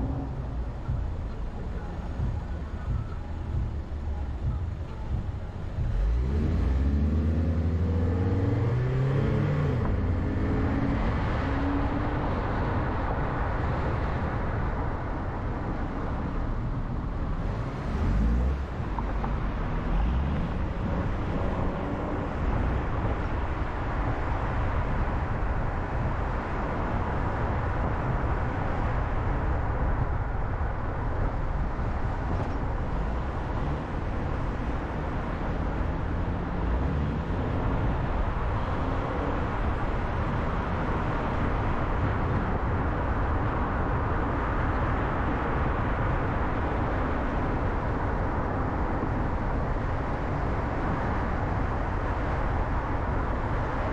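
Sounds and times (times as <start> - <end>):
car engine accelerating: 0.0 - 53.9
road and tyre noise: 0.0 - 53.9.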